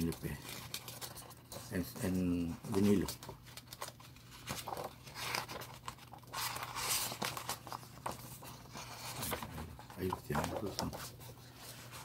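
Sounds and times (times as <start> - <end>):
page turning: 0.0 - 12.0
paper rustling: 0.0 - 12.0.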